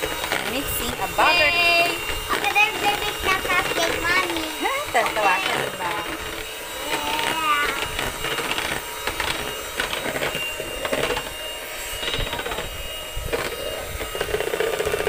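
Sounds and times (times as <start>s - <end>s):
hand mixer motor whining: 0.0s - 15.0s.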